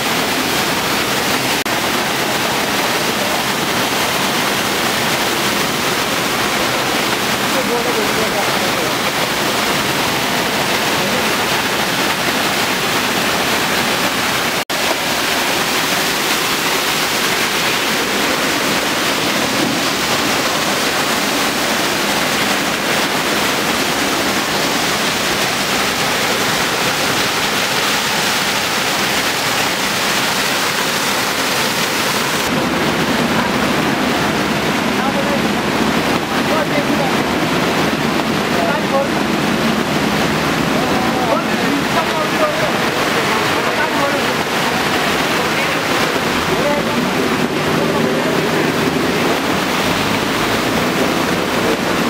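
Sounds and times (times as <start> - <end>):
floodwater rushing: 0.0 - 52.0.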